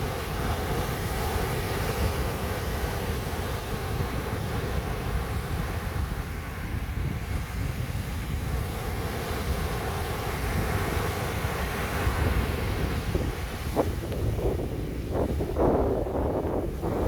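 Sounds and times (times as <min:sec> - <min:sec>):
waves washing on a beach: 0:00.0 - 0:17.0
wind buffeting microphone: 0:00.0 - 0:17.0.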